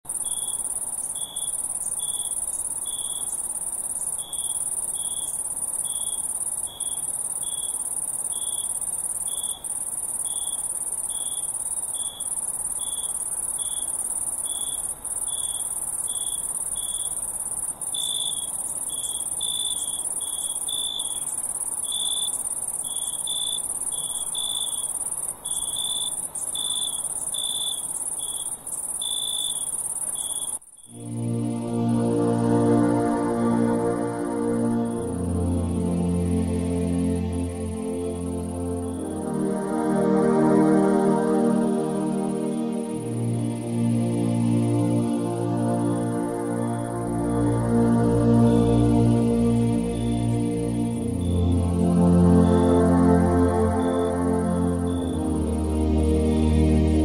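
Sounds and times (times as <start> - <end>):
crickets chirping: 0.1 - 57.0.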